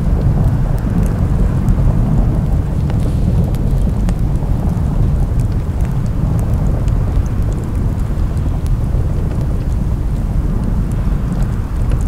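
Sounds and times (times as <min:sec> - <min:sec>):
fire crackling: 0:00.0 - 0:12.0
large fire rumbling: 0:00.0 - 0:12.0.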